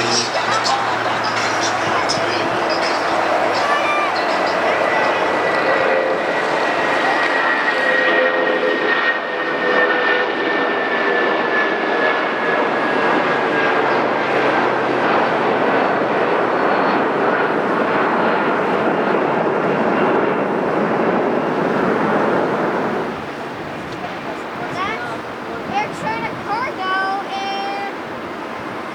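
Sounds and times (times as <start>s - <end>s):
jet engines passing close: 0.0s - 28.9s.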